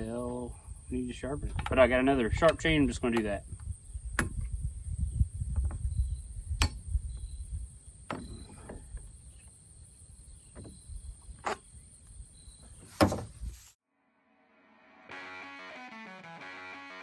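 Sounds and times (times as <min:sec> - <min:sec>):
insect drone: 0:00.0 - 0:15.6.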